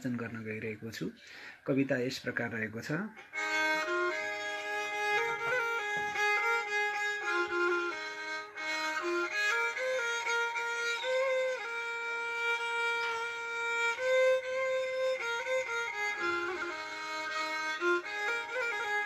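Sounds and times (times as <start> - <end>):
bowed fiddle playing slow melody: 3.2 - 19.0.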